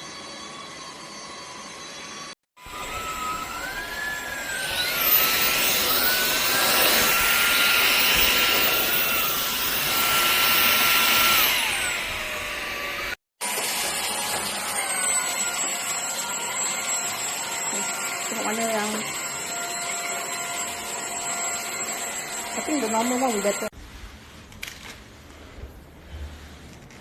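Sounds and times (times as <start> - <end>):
vacuum cleaner motor whining: 0.0 - 23.7.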